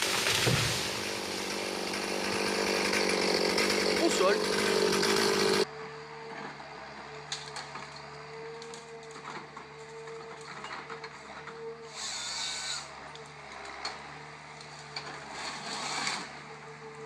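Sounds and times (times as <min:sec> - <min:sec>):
chainsaw running: 0:00.0 - 0:17.0.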